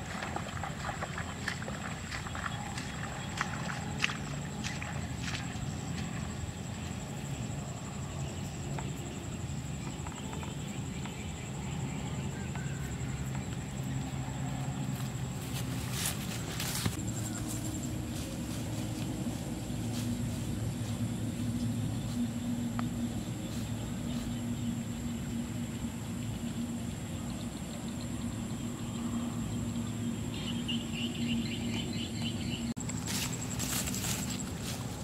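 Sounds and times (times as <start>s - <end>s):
distant engine hum: 0.0s - 35.0s
high insect whine: 0.0s - 35.0s
rapid insect chirping: 0.0s - 35.0s.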